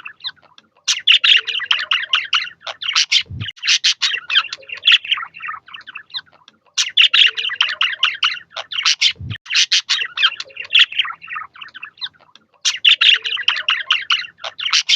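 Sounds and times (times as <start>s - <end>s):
budgerigars chattering: 0.0s - 14.9s.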